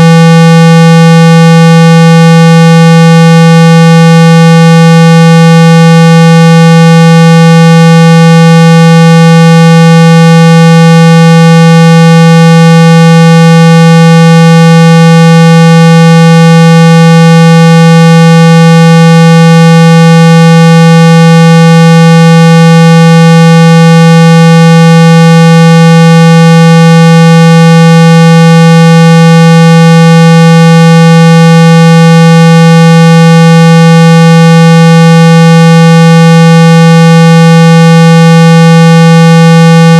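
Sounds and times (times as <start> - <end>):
loud steady electronic tone: 0.0 - 39.9.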